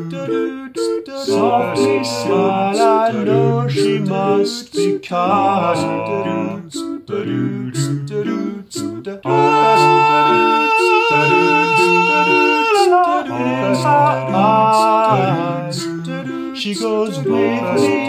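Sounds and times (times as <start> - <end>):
man singing a cappella harmonies: 0.0 - 18.0.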